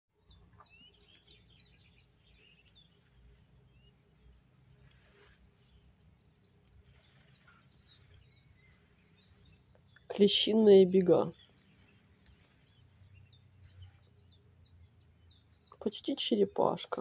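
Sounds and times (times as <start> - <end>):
bird chirps and trill: 0.2 - 17.0.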